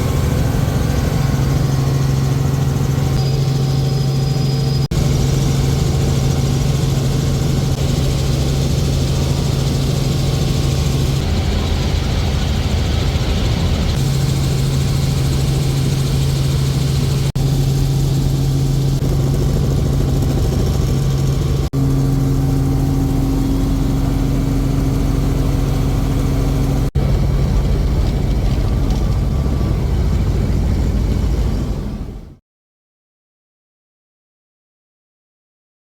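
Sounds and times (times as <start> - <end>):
helicopter engine and rotor drone: 0.0 - 32.4.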